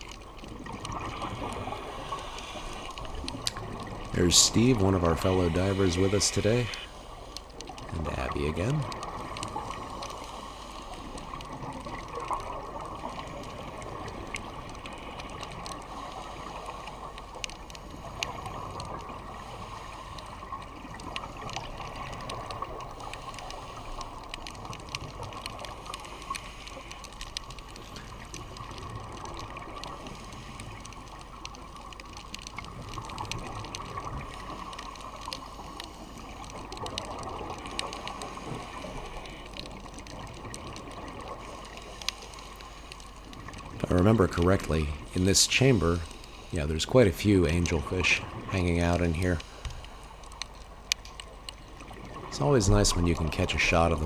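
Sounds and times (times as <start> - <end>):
faint underwater clicks: 0.0 - 54.0
muffled underwater rush: 0.0 - 54.0.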